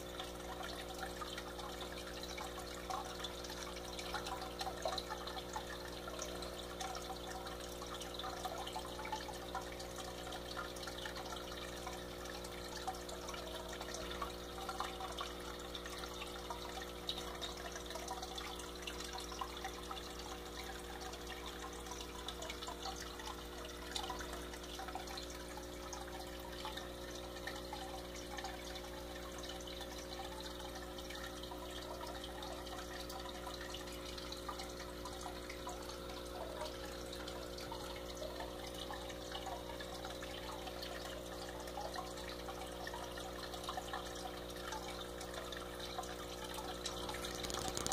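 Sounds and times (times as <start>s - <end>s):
filter motor hum: 0.0s - 47.9s
water trickling and splashing: 0.0s - 47.9s.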